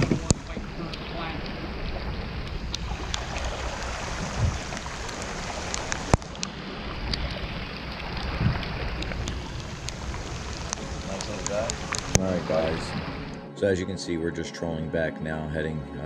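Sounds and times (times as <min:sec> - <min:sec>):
rain falling on water: 0:00.0 - 0:13.4
wind rumbling on microphone: 0:00.0 - 0:13.4.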